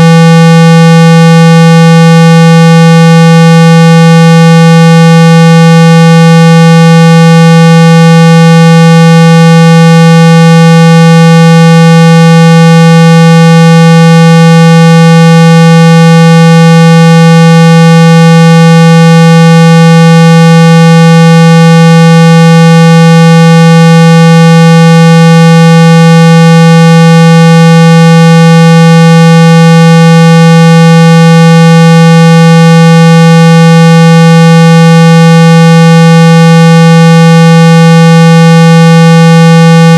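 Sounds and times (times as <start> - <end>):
buzzy low test tone: 0.0 - 39.9.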